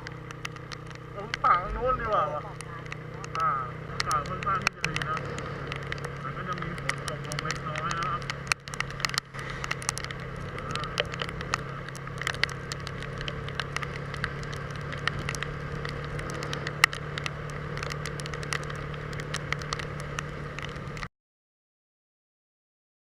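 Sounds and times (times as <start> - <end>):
crackles and ticks: 0.0 - 21.1
vehicle engine humming: 0.0 - 21.1.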